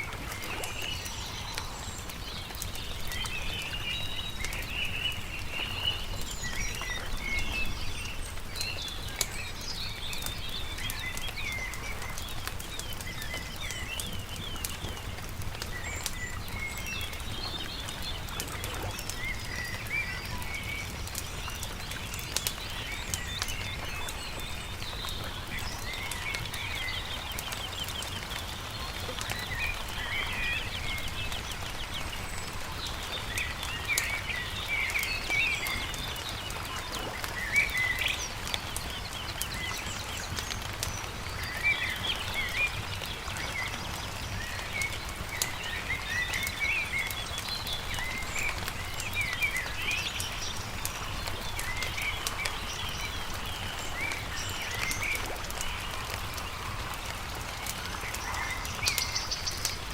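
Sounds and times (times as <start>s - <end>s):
campfire crackling and popping: 0.0s - 59.9s
songbirds chirping: 0.0s - 59.9s.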